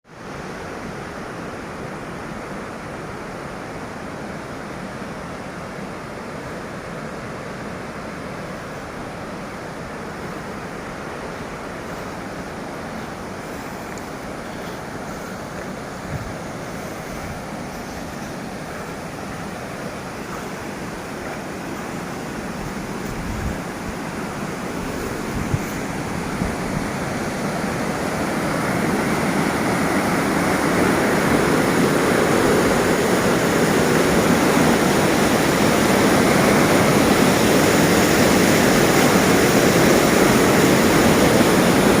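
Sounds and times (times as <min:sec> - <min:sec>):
rushing water: 0:00.1 - 0:42.0.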